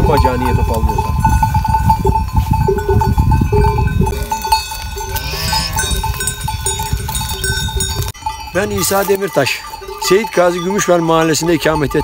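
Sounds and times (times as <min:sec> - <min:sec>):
animal bells clanking: 0:00.0 - 0:12.0.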